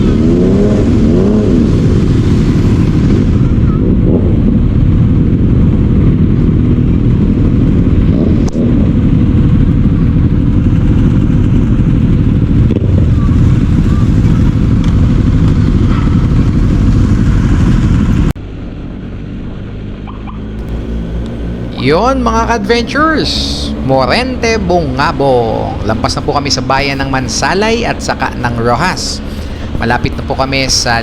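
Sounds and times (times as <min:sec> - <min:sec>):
motorcycle engine running: 0:00.0 - 0:31.0
wind rumble on microphone: 0:00.0 - 0:31.0.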